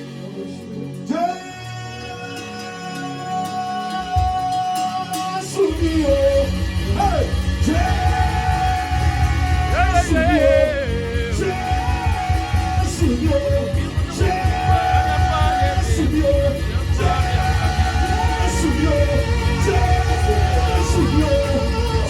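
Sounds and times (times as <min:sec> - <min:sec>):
band with heavy bass: 0:00.0 - 0:22.0
person singing long notes: 0:00.9 - 0:22.0.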